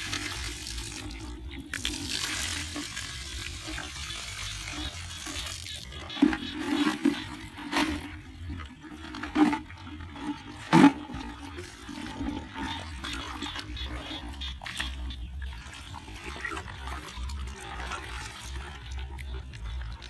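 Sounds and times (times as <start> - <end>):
water sloshing: 0.0 - 20.0.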